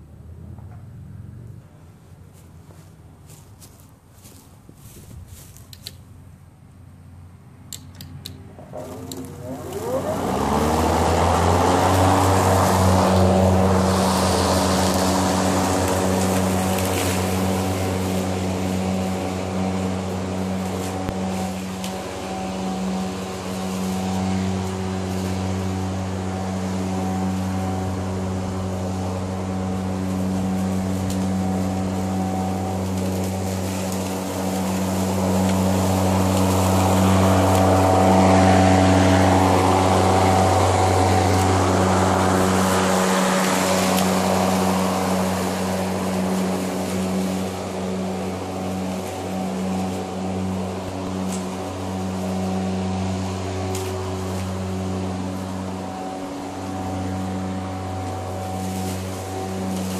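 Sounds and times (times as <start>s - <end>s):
electric lawn mower humming: 6.8s - 59.9s.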